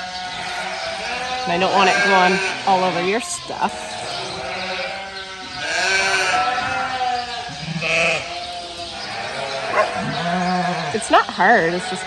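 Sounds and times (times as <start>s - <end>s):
sheep bleating: 0.0s - 12.0s.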